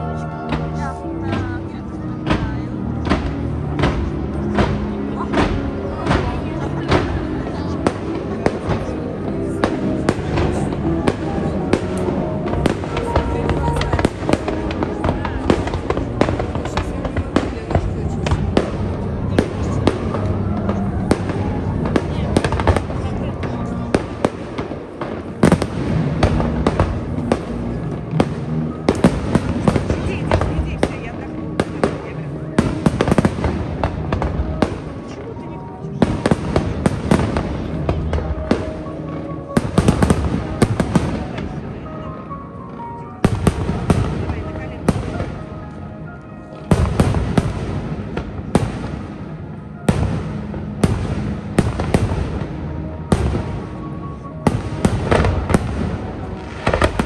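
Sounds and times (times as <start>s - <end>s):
fireworks bursting with sharp bangs: 0.0s - 57.0s.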